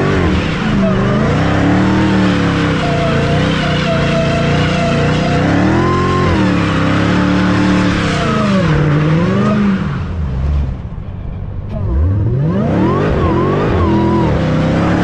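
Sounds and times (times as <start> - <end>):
car engine revving hard: 0.0 - 10.2, 11.8 - 15.0.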